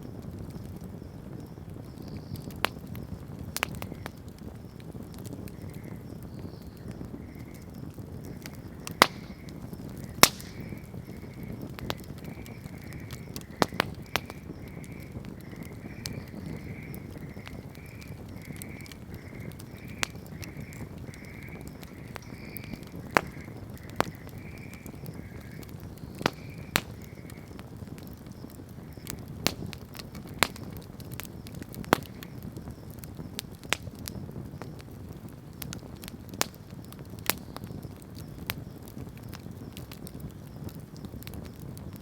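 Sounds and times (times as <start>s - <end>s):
campfire burning: 0.0s - 42.0s
fire crackles and pops: 0.0s - 42.0s.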